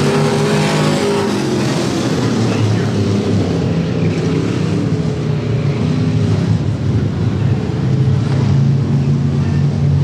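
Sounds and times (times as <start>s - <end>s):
race car engines droning: 0.0s - 10.0s.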